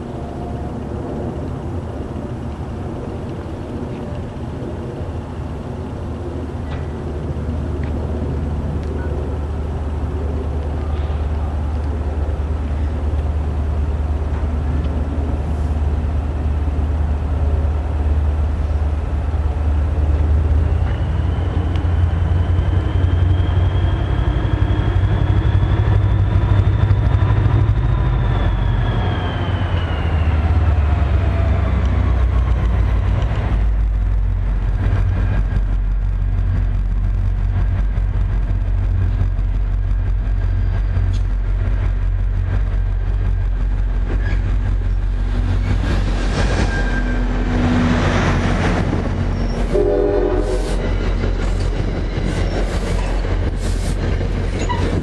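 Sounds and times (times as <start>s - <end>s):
diesel train engine rumble: 0.0s - 55.0s
high whine: 0.0s - 55.0s.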